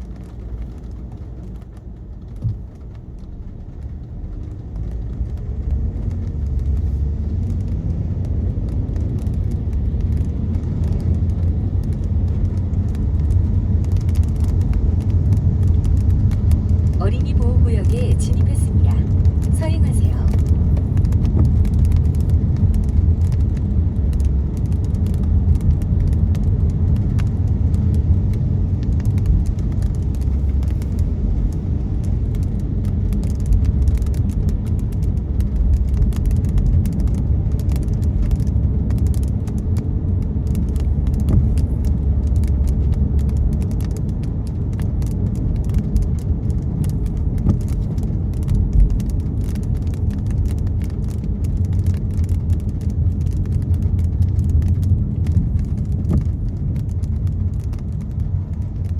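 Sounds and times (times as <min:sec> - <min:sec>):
raindrops ticking on windshield: 0:00.0 - 0:58.9
road and tyre rumble: 0:00.0 - 0:58.9.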